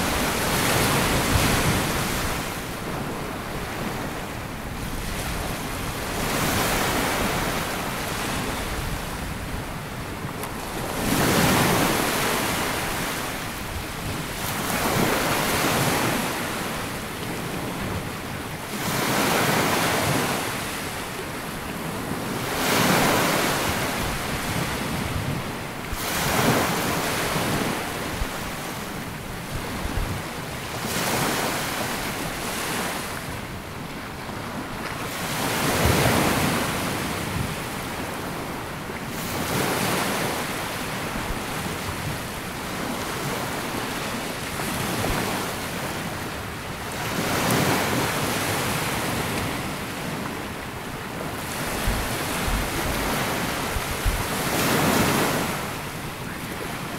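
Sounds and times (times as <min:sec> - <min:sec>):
small waves breaking on beach: 0:00.0 - 0:56.9
wind on microphone: 0:00.0 - 0:56.9.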